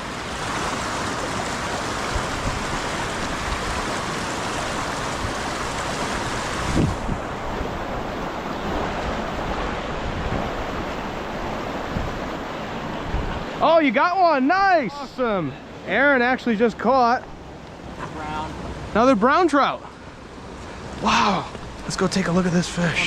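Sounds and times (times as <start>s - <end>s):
rushing stream water: 0.0s - 23.0s.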